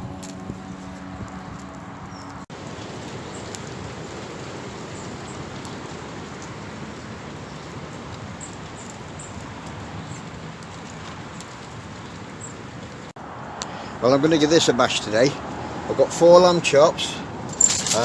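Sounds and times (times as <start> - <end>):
steady rain hiss: 2.5 - 18.0.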